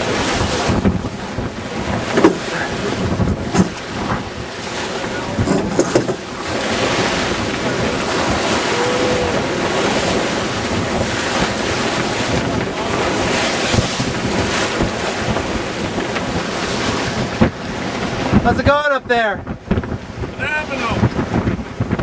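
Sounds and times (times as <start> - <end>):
waves splashing along hull: 0.0 - 22.0
wind buffeting microphone: 0.0 - 22.0.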